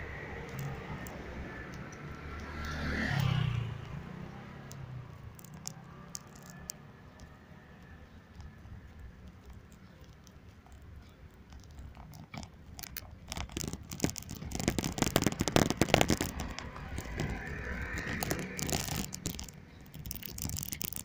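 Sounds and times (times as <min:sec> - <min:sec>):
rustling and crackling: 0:00.0 - 0:21.0.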